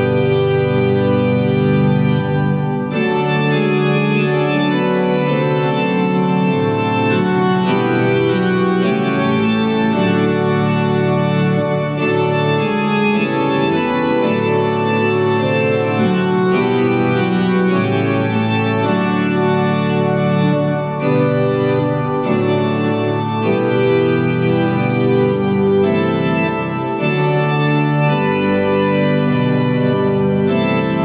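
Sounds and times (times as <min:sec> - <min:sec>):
keyboard organ chords: 0:00.0 - 0:31.0.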